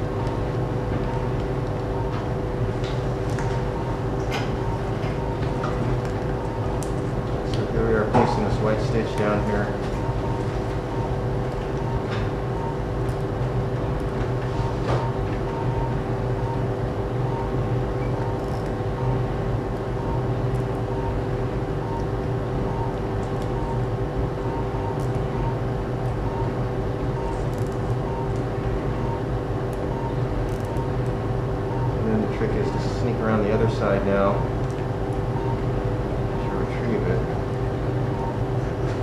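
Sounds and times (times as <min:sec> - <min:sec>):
equipment hum: 0:00.0 - 0:39.0.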